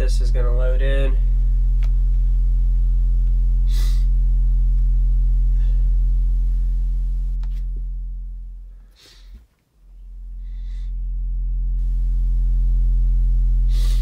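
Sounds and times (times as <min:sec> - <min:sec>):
low sine test tone: 0:00.0 - 0:14.0.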